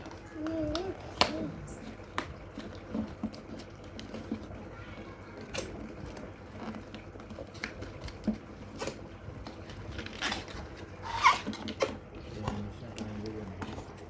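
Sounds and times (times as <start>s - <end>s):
packaging clicks and rustles: 0.0s - 14.0s.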